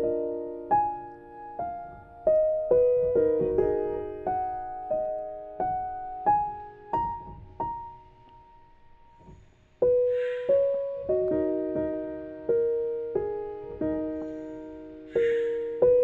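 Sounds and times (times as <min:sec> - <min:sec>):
slow soft solo piano: 0:00.0 - 0:16.0
soft hiss: 0:00.1 - 0:16.0.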